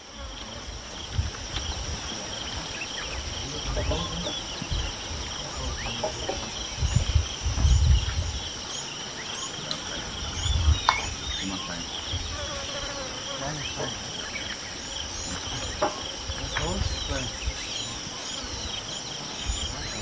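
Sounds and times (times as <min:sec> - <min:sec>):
bird chirps: 0:00.0 - 0:20.0
insect chorus buzzing: 0:00.0 - 0:20.0.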